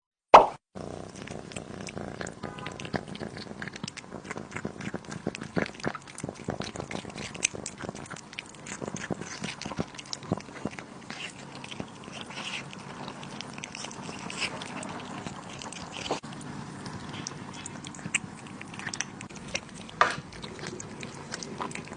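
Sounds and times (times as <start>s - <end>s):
cat eating: 0.8s - 21.9s.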